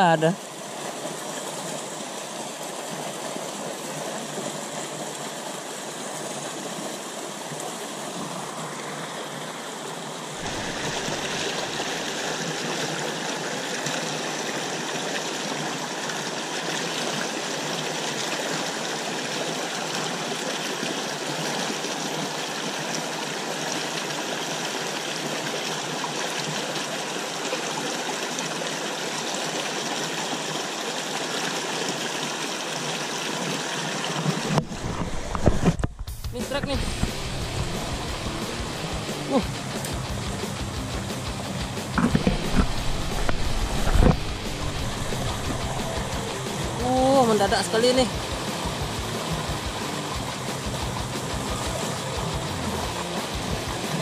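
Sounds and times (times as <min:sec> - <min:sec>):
water rushing through rocky stream: 0:00.0 - 0:54.0.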